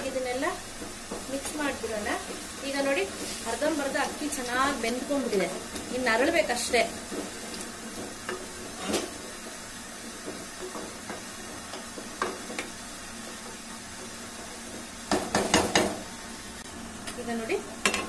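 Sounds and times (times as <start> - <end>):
spatula knocking and scraping pot: 0.0 - 16.0.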